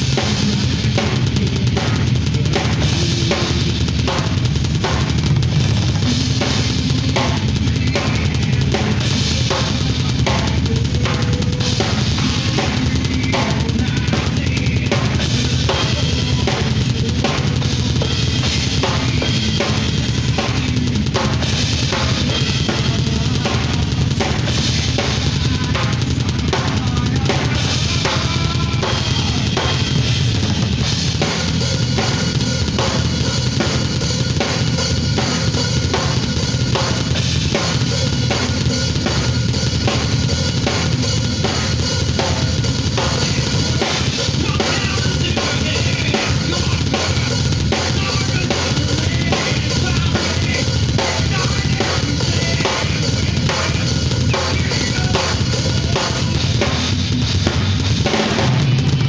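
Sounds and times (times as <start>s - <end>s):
backing track music: 0.0s - 59.0s
electronic drum kit beat: 0.0s - 59.0s.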